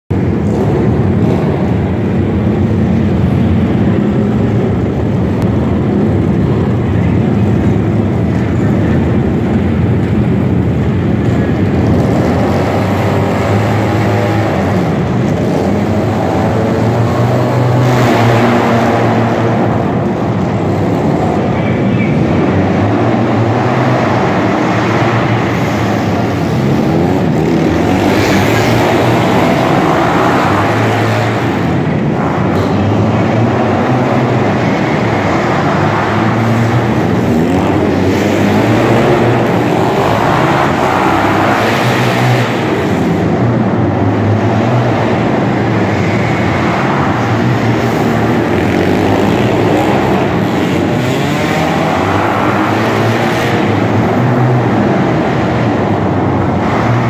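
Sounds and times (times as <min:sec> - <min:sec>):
racing motorcycles revving and accelerating: 0:00.1 - 0:57.0.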